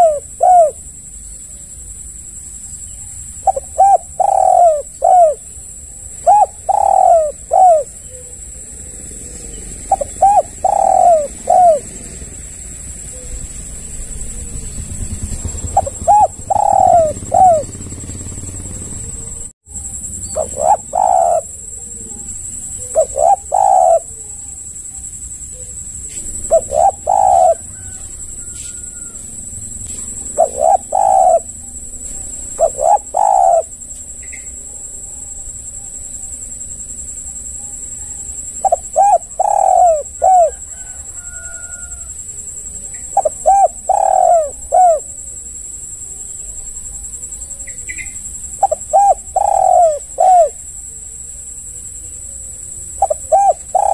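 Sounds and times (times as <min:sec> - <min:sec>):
dove cooing: 0:00.0 - 0:01.9, 0:02.8 - 0:36.3, 0:37.4 - 0:53.9.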